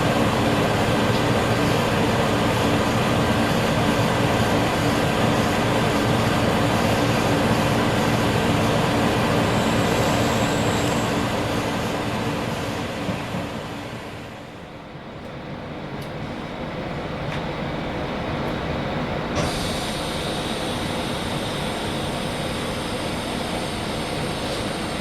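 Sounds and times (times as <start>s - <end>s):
rail noise: 0.0s - 25.0s
railcar engine hum: 0.0s - 25.0s.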